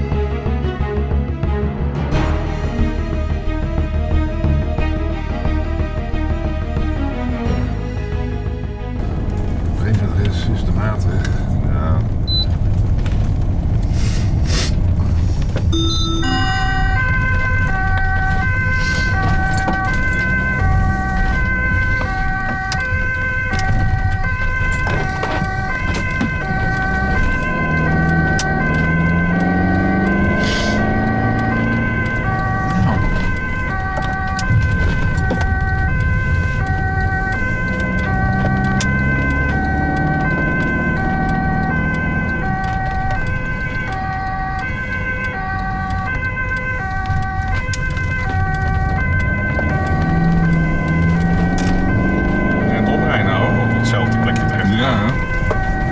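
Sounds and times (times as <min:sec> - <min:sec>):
vehicle engine and road noise: 0:00.0 - 0:55.9
ambulance two-tone siren: 0:02.2 - 0:07.5, 0:09.0 - 0:55.9.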